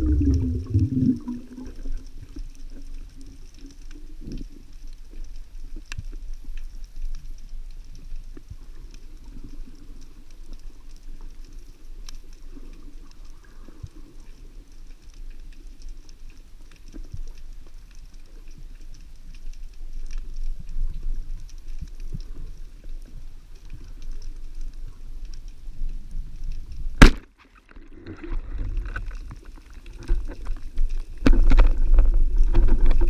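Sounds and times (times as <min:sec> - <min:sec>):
sharp clicks and crackles: 0:00.0 - 0:33.0
underwater rumble of water: 0:00.0 - 0:33.0.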